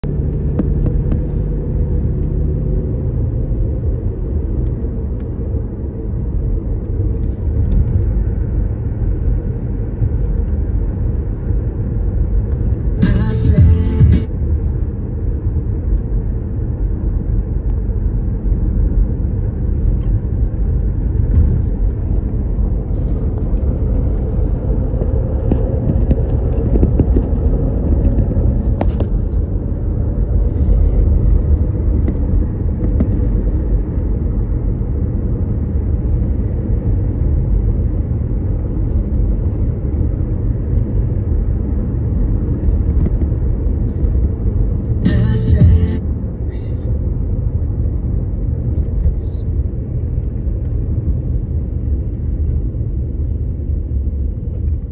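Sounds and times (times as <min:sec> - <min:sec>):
car driving rumble: 0:00.0 - 0:54.9.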